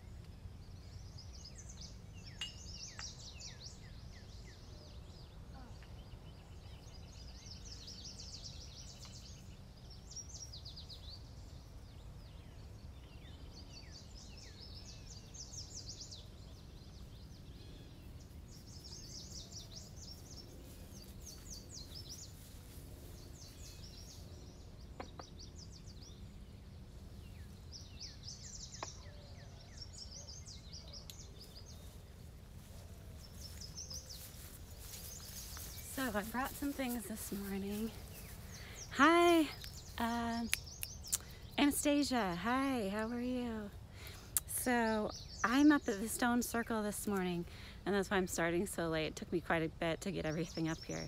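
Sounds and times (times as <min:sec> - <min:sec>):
songbirds singing trills: 0:00.0 - 0:51.0.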